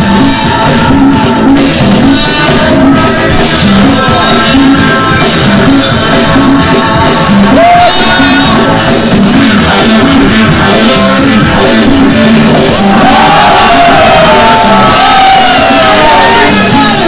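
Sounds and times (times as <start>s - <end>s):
loud music with steady beat: 0.0s - 17.0s.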